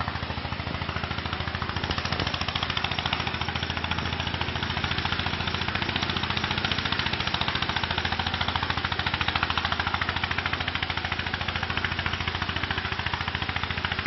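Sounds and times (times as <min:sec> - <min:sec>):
tractor engine chugging under load: 0:00.0 - 0:14.0.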